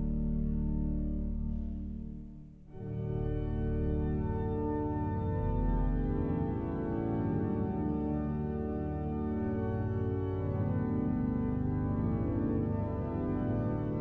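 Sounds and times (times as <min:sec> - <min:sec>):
church pipe organ chords: 0:00.0 - 0:14.0.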